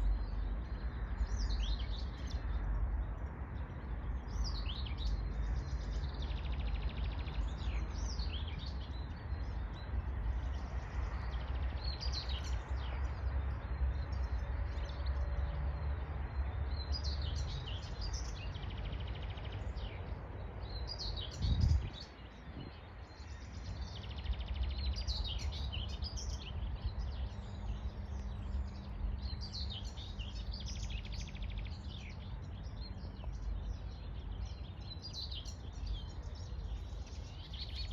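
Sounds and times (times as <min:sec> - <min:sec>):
songbirds chirping and singing: 0:00.0 - 0:37.9
wind rumble on microphone: 0:00.0 - 0:37.9.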